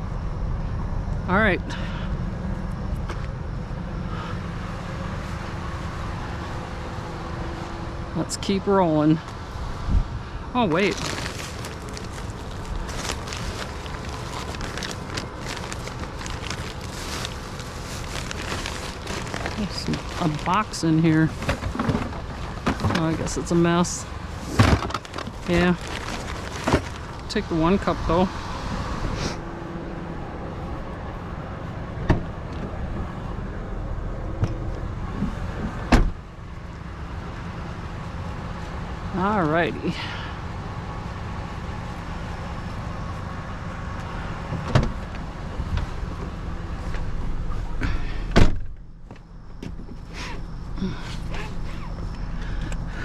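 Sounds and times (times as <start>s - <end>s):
steady low rumble: 0.0s - 53.0s
vehicle engine idling: 0.0s - 53.0s.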